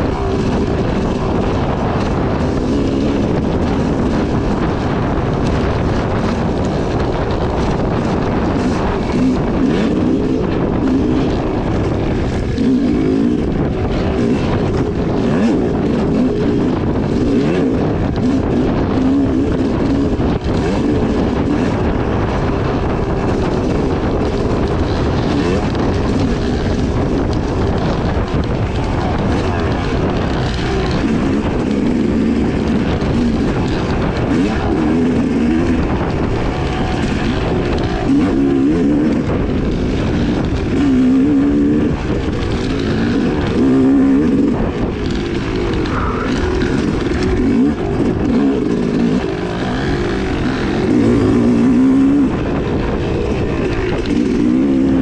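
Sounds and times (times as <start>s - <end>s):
dirt bike engine revving: 0.0s - 55.0s
knocks and clatter: 0.0s - 55.0s.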